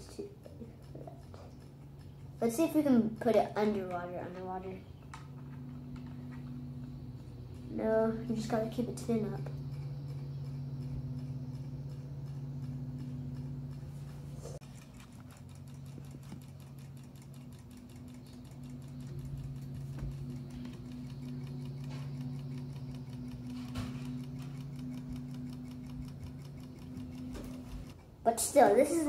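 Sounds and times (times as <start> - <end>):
small toy motor buzzing: 0.0 - 29.0.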